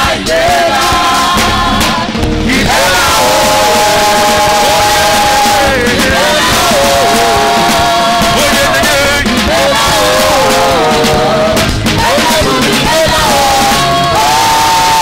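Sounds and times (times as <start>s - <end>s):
congregation singing: 0.0s - 15.0s
gospel worship music with singing: 0.0s - 15.0s.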